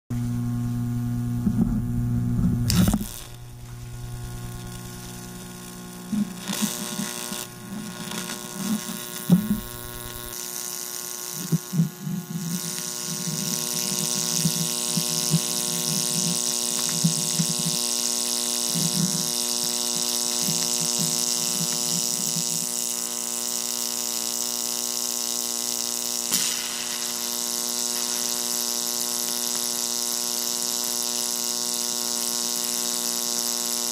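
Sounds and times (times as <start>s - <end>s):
electric arc buzzing and sizzling: 0.1s - 33.9s
steady electrical hum: 0.1s - 33.9s.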